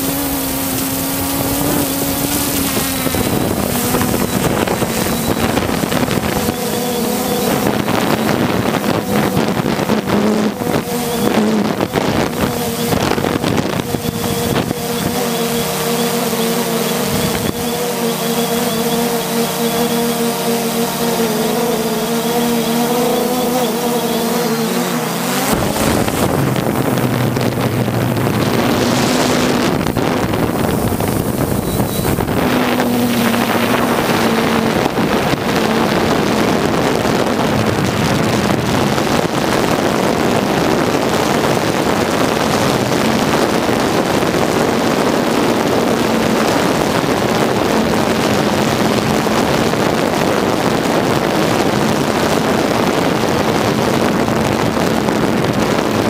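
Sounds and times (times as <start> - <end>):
drone motors and propellers: 0.0 - 56.0
wind rush on microphone: 0.0 - 56.0.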